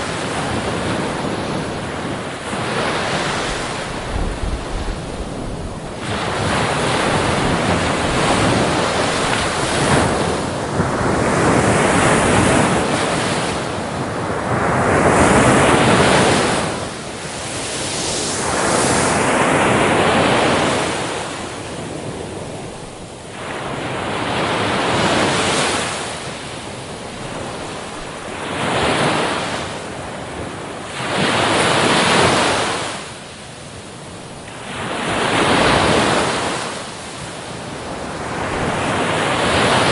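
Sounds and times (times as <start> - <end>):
waves washing in: 0.0 - 39.9.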